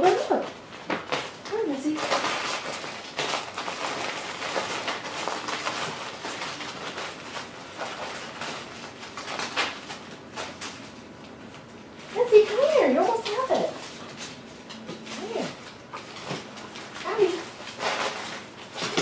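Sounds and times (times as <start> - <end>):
wrapping paper crinkling and tearing: 0.0 - 19.0.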